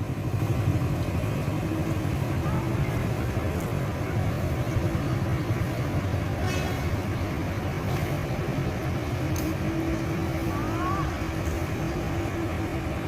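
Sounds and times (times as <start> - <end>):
road noise: 0.0 - 13.0
vehicle engines rumbling: 0.0 - 13.0.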